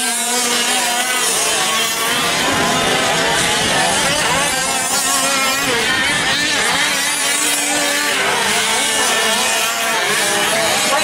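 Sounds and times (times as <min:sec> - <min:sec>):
small two-stroke engines revving: 0:00.0 - 0:11.0.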